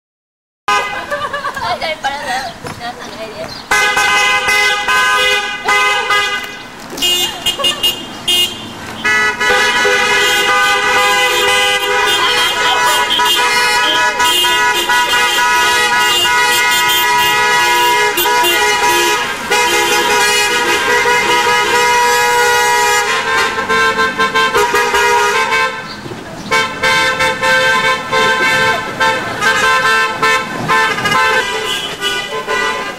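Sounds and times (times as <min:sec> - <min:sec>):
car horns honking: 0:00.7 - 0:01.4, 0:03.6 - 0:32.9
cars driving past: 0:00.7 - 0:32.9.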